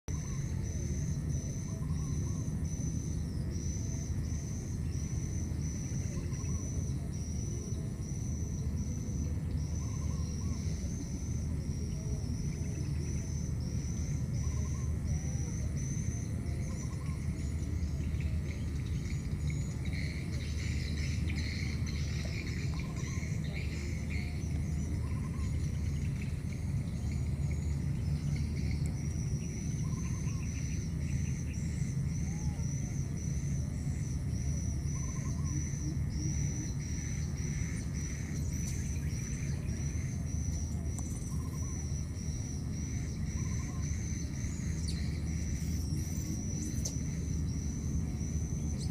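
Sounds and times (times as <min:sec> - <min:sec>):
continuous low rumble: 0:00.0 - 0:48.9
insect chatter: 0:00.1 - 0:48.9
insects high chirps: 0:00.1 - 0:48.9.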